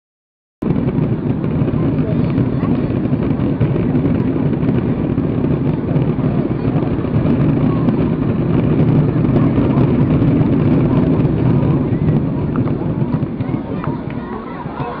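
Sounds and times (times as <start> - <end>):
fireworks barrage rumble: 0.6 - 15.0.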